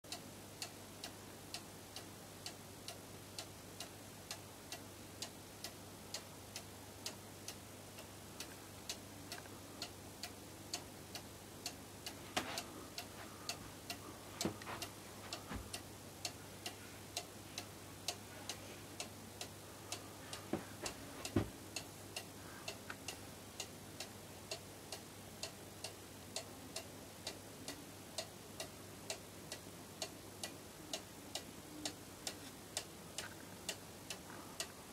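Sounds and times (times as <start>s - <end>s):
clock pendulum ticking: 0.1s - 34.8s.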